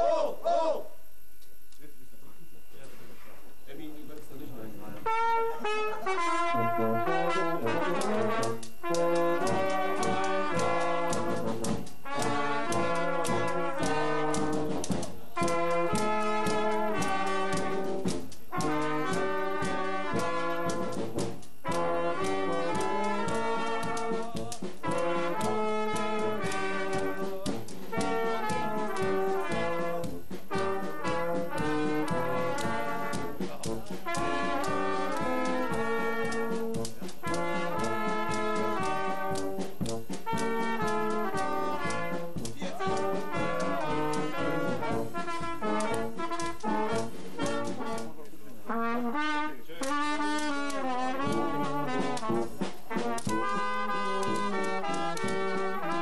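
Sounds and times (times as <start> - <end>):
drum and cymbal beat: 3.5 - 56.0
brass band playing: 3.7 - 56.0.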